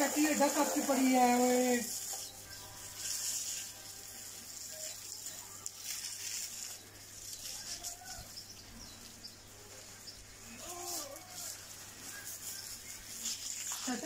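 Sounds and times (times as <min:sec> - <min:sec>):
garden hose spraying water: 0:00.0 - 0:14.0
water pattering on ground: 0:00.0 - 0:14.0.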